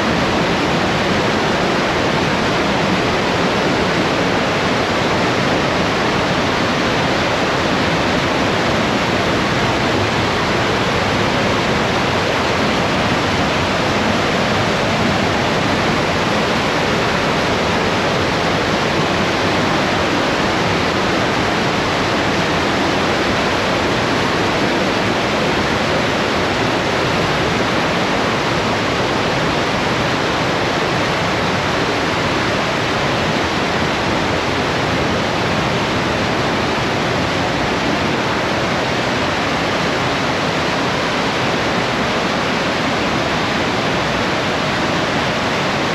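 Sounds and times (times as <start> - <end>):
water rushing through gorge: 0.0 - 45.9.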